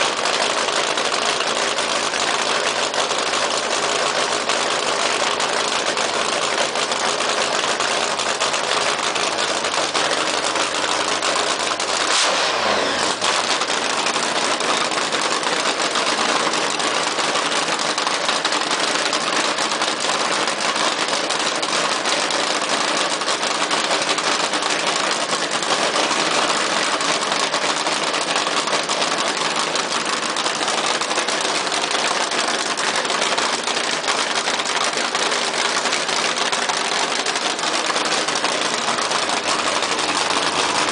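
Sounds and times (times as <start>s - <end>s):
engine idling fast and loud: 0.0s - 40.9s.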